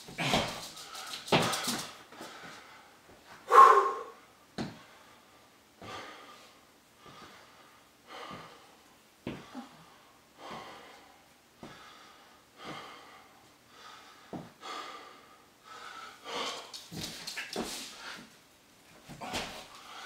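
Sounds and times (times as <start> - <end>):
man panting: 0.0 - 18.4, 19.1 - 20.0.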